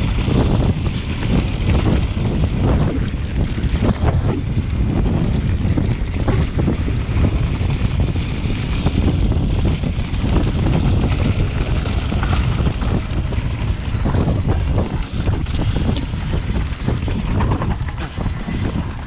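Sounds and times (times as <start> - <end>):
bike knocks and rattles: 0.0 - 19.0
bike tyres rumbling on dirt: 0.0 - 19.0
wind roaring over microphone: 0.0 - 19.0.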